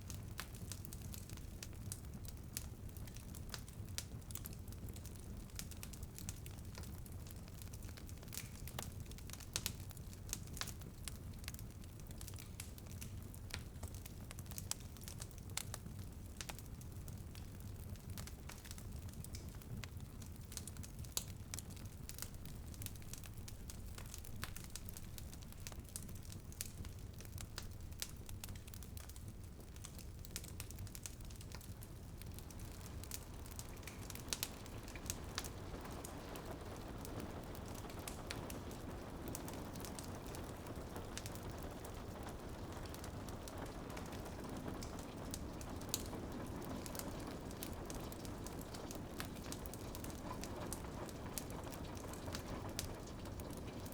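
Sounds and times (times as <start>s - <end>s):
rain pattering on a window: 0.0s - 53.9s
wood fire crackling and popping: 0.0s - 53.9s.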